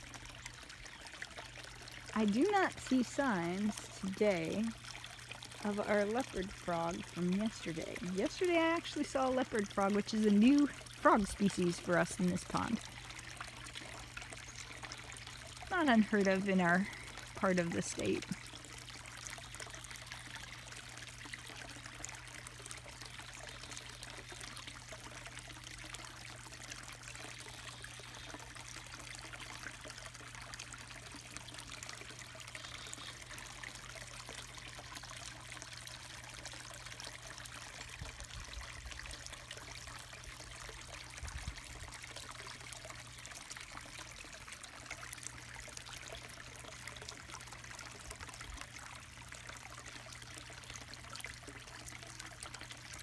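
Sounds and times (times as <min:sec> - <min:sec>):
water trickling into pond: 0:00.0 - 0:53.0.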